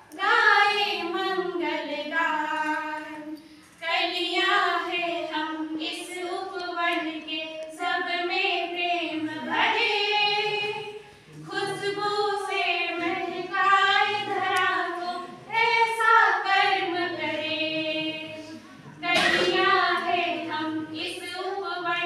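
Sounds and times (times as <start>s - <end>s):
women singing together: 0.0s - 22.0s.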